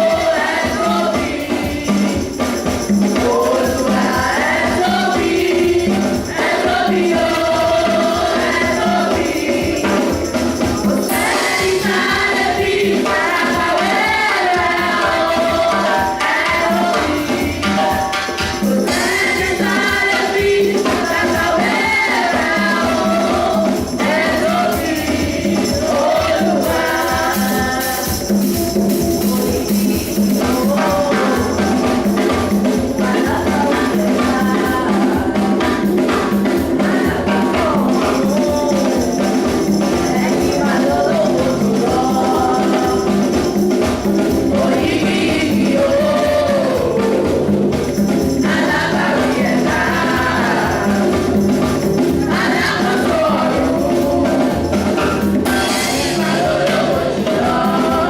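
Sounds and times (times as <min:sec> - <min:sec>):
choir singing gospel music: 0:00.0 - 0:58.0
rhythmic beat with tambourine: 0:00.0 - 0:58.0.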